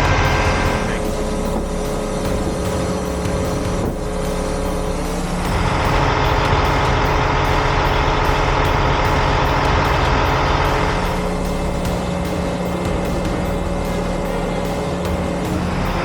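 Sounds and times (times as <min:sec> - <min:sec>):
diesel truck engines running: 0:00.0 - 0:16.0.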